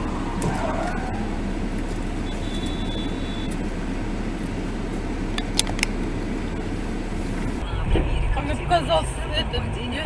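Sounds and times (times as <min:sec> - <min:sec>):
car engine running: 0:00.0 - 0:10.0
traffic rumble: 0:00.0 - 0:10.0.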